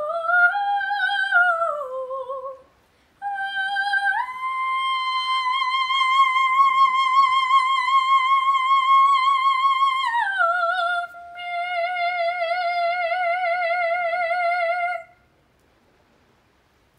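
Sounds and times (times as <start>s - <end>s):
soprano singing operatically: 0.0s - 15.2s.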